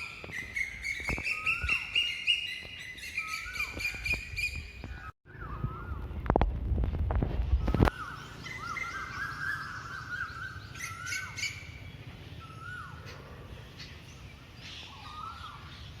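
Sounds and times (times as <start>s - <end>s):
birds chirping and calling: 0.0s - 5.5s, 7.6s - 16.0s.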